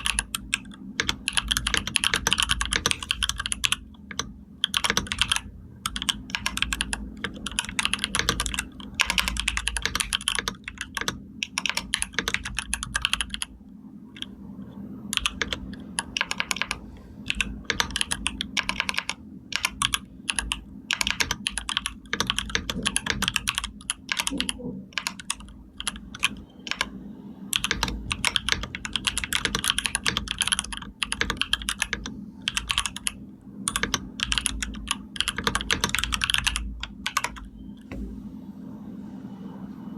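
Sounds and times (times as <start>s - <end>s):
computer keyboard typing: 0.0s - 13.6s, 14.2s - 38.0s
low hum: 0.0s - 39.9s.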